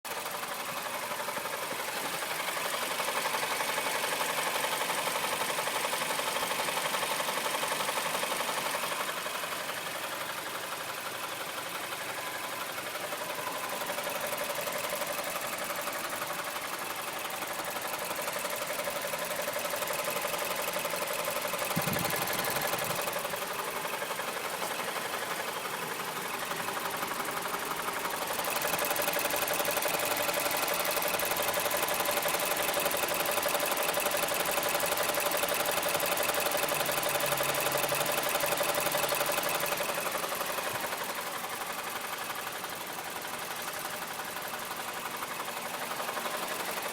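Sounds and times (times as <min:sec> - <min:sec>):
engine running with knocking tick: 0:00.1 - 0:46.9.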